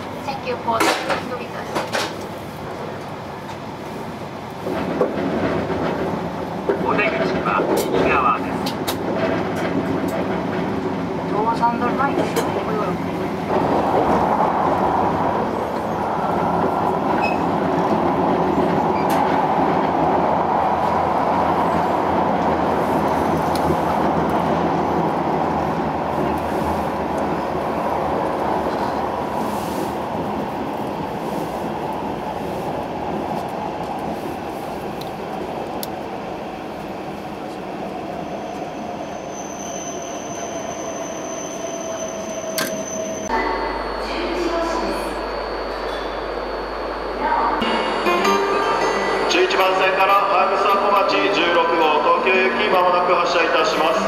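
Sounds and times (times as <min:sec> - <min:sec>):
train running noise: 0:00.0 - 0:39.0, 0:41.6 - 0:54.0.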